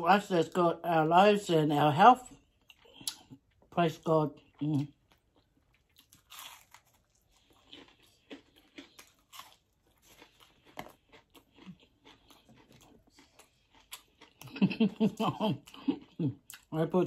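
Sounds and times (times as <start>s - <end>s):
crunching and chewing food: 0.1s - 17.0s.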